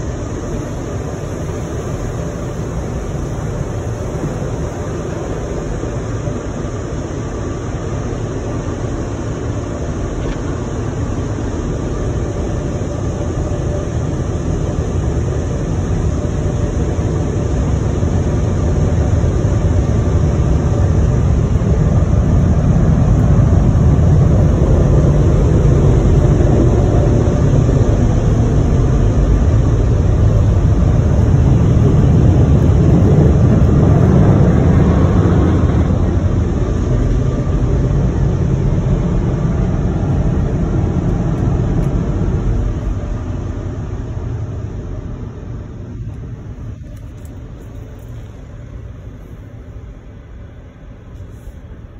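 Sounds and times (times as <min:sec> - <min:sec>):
car wash water spray and blowers: 0:00.0 - 0:51.9.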